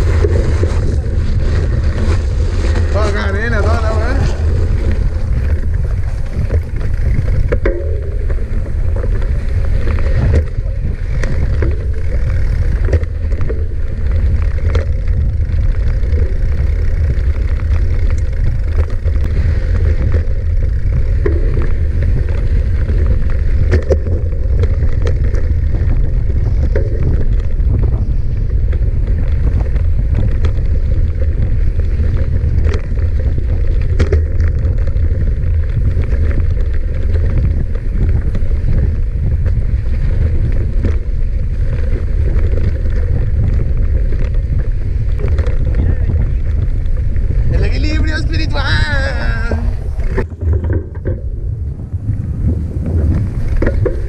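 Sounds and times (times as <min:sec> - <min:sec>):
bike rattling over rough ground: 0:00.0 - 0:54.0
wind buffeting microphone: 0:00.0 - 0:54.0.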